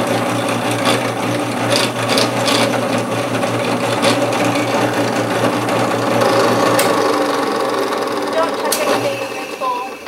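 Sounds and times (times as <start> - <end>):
drill press motor hum: 0.0 - 10.0.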